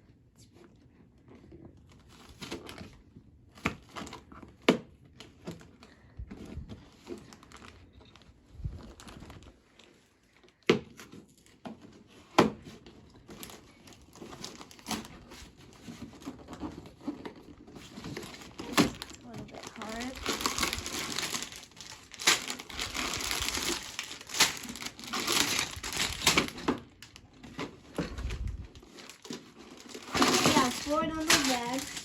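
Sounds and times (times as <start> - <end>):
cardboard and plastic crinkling: 1.3 - 32.0.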